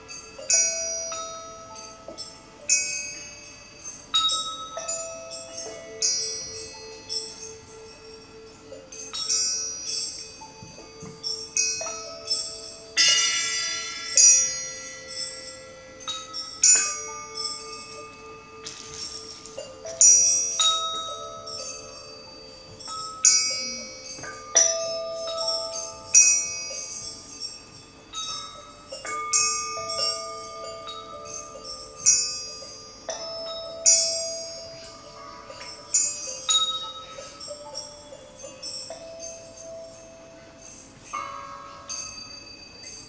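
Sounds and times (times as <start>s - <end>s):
glockenspiel and chime bars struck: 0.0s - 43.0s.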